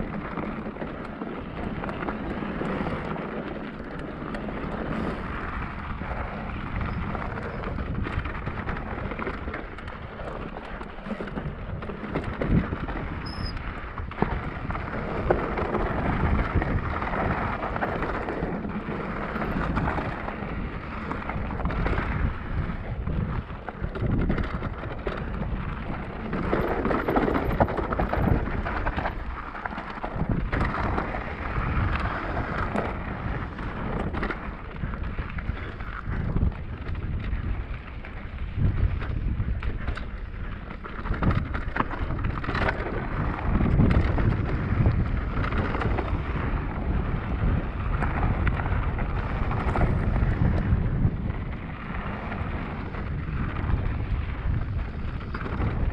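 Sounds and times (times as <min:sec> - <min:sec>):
mountain bike clattering: 0:00.0 - 0:55.9
wind buffeting microphone: 0:00.0 - 0:55.9.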